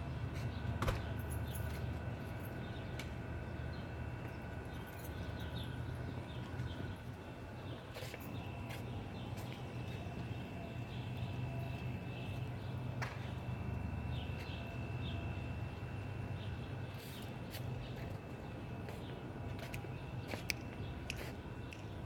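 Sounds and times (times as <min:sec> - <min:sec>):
birds chirping: 0:02.7 - 0:22.0.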